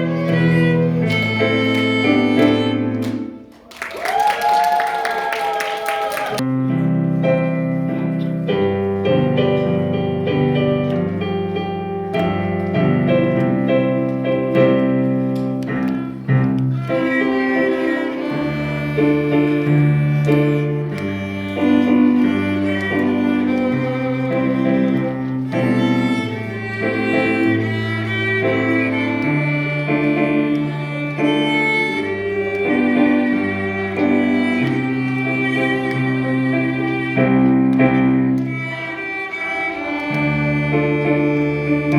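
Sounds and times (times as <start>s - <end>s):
keyboard melody with held notes: 0.0s - 3.5s, 6.4s - 41.9s.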